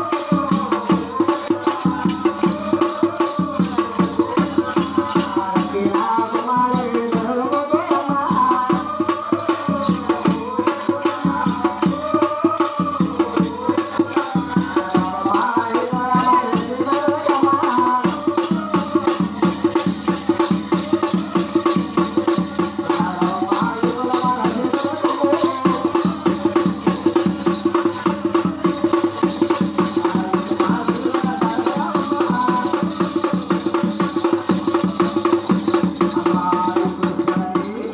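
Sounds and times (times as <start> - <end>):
rapid folk percussion: 0.0 - 37.9.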